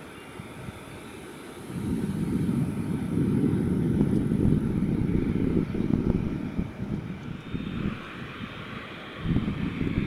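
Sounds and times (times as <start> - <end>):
distant jet engines rumbling: 0.0 - 10.0.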